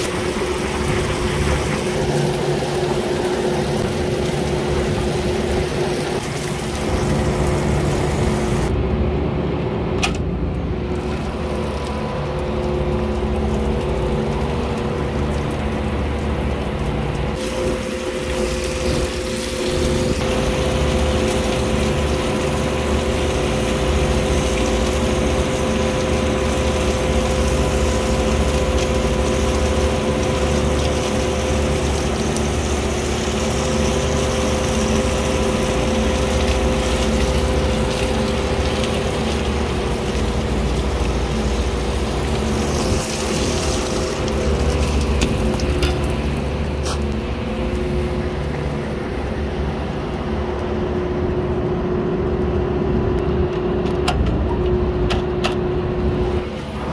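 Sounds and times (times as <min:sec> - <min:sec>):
hose water spraying on coil: 0:00.0 - 0:08.7, 0:10.9 - 0:50.7
condenser fans humming: 0:00.0 - 0:56.9.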